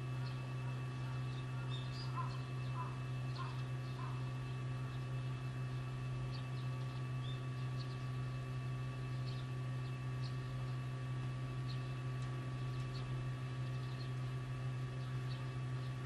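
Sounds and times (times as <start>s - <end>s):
low hum of cattle barn: 0.0s - 16.0s.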